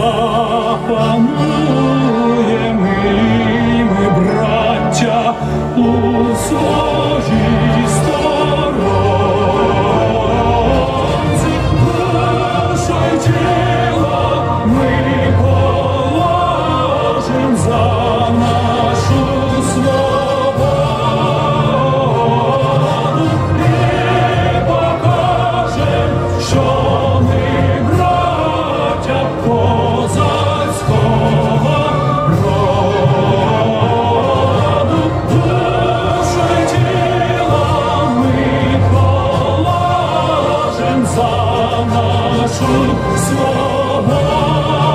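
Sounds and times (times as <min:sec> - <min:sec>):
choir singing held notes: 0:00.0 - 0:44.9
musical accompaniment: 0:00.0 - 0:44.9.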